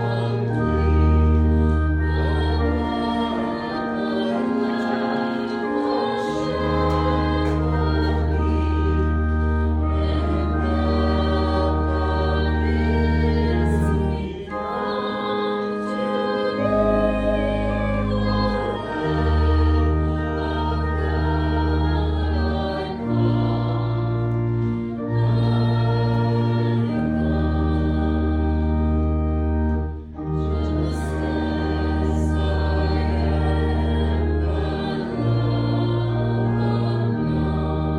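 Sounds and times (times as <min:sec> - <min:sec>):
long bass notes accompaniment: 0:00.0 - 0:37.9
voices singing a hymn: 0:00.0 - 0:37.9.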